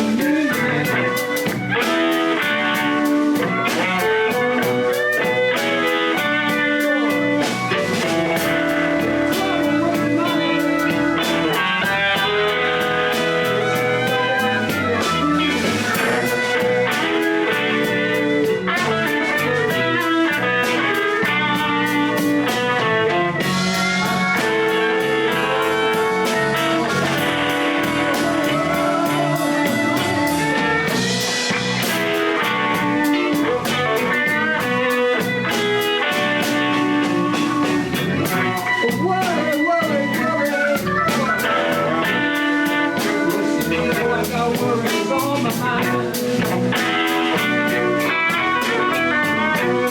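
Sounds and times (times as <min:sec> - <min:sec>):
blues band playing: 0:00.0 - 0:49.9
drum kit: 0:00.0 - 0:49.9
guitar: 0:00.0 - 0:49.9.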